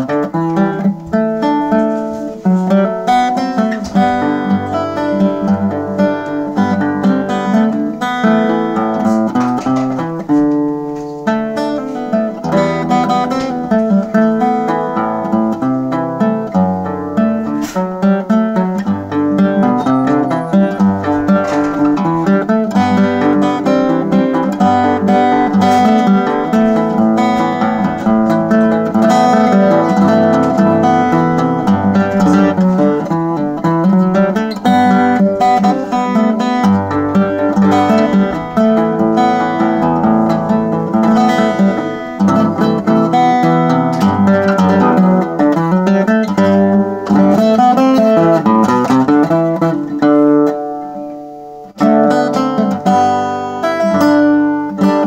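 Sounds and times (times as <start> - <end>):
fingerstyle acoustic guitar: 0.0 - 55.0.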